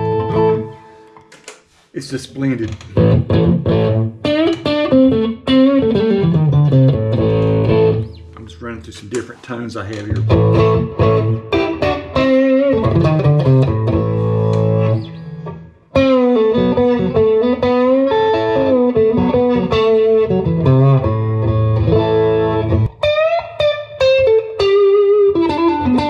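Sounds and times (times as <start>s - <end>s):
electric guitar playing: 0.0s - 1.6s, 2.4s - 26.0s.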